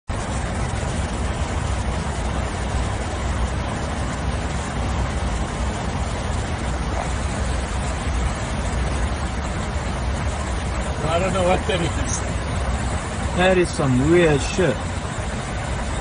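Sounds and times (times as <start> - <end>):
cockpit airflow and engine noise: 0.1 - 16.0.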